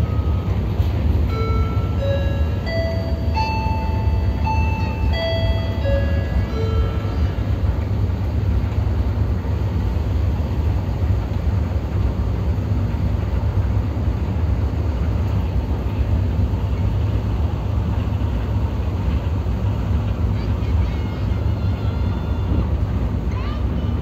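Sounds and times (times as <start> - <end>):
ship engine rumble: 0.0 - 24.0.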